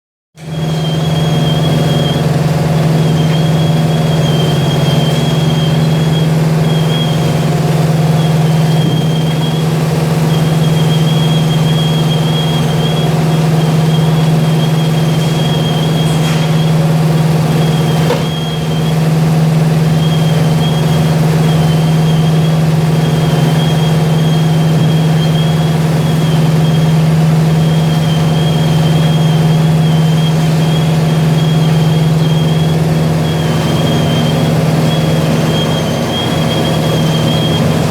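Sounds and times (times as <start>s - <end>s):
washing machine low hum: 0.4s - 37.9s
thin wavering high whine: 0.5s - 37.9s.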